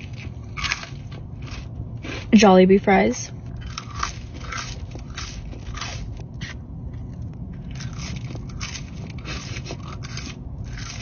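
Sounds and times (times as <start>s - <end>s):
crunchy chewing of fries: 0.0s - 2.4s, 3.4s - 11.0s.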